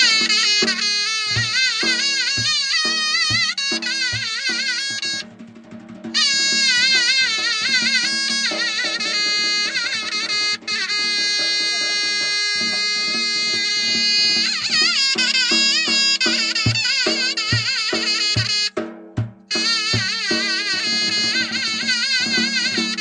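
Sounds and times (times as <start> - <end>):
reedy wind instrument melody: 0.0 - 18.9, 19.5 - 23.0
drum beats: 0.0 - 23.0.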